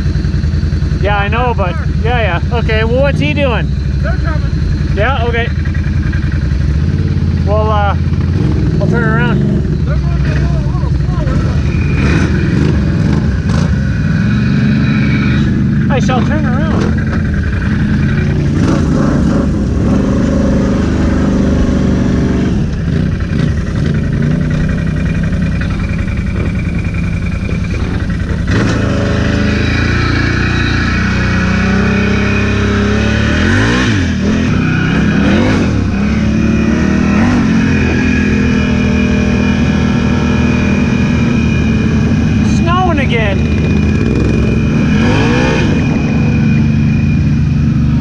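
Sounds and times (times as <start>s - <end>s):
quad engine revving: 0.0s - 48.0s.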